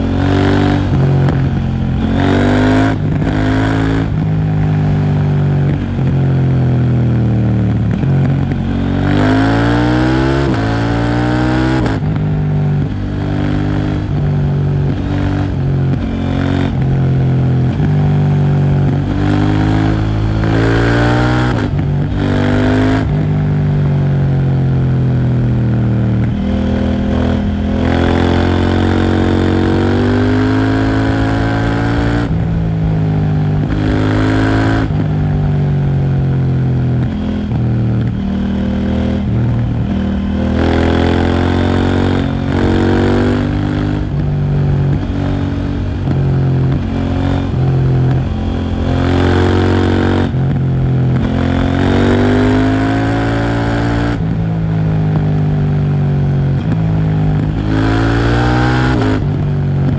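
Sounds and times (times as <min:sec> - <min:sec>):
motorcycle engine revving hard: 0:00.0 - 0:59.9.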